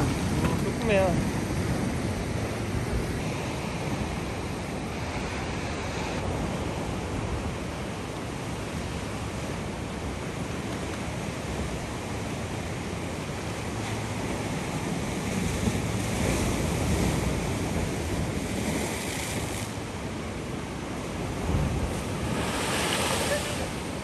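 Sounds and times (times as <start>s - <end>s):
wind on microphone: 0.0s - 12.9s, 13.5s - 24.0s
surf washing against rocks: 0.0s - 24.0s.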